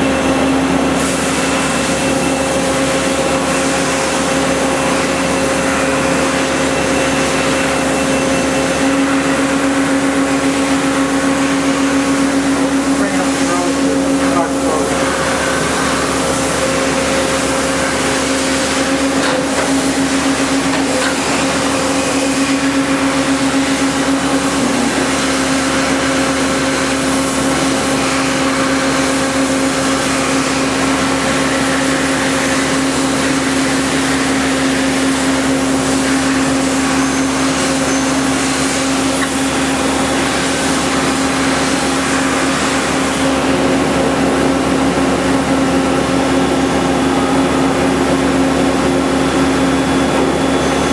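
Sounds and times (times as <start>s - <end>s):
constant machine whine: 0.0s - 50.9s
machining center hum: 0.0s - 50.9s.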